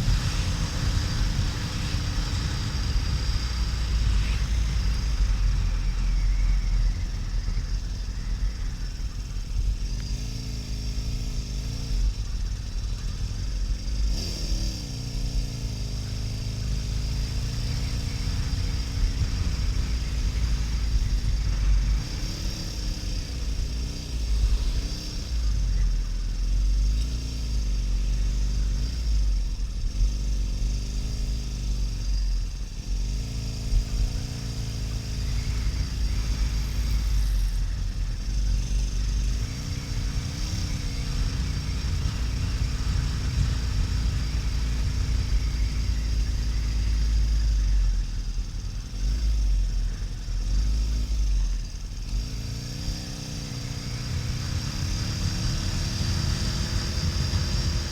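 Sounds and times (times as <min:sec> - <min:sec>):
motorcycle engine running: 0:00.0 - 0:57.9
wind rumble on microphone: 0:00.0 - 0:57.9.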